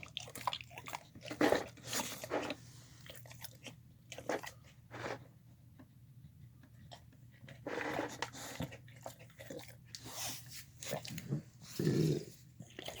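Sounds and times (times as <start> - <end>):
dog chewing and crunching food: 0.0 - 13.0.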